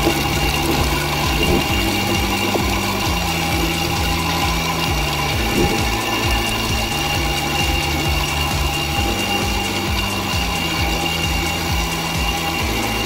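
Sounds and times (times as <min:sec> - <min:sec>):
motor whine: 0:00.0 - 0:13.0.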